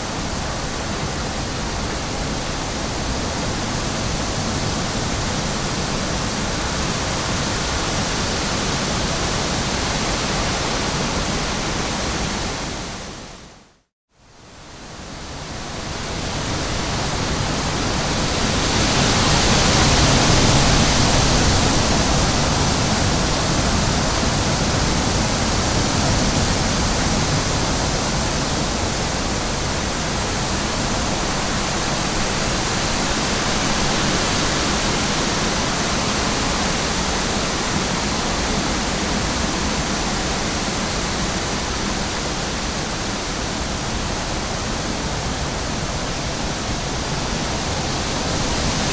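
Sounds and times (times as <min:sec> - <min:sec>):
nature ambience rushing noise: 0:00.0 - 0:48.9.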